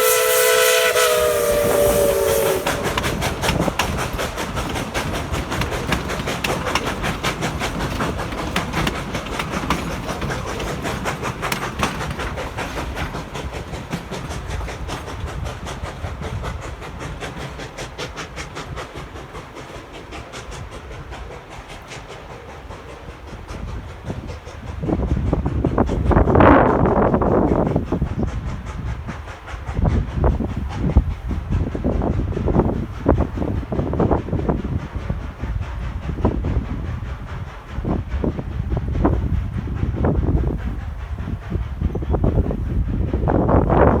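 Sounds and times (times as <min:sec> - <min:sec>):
train wheels clicking over rail joints: 0:00.0 - 0:44.0.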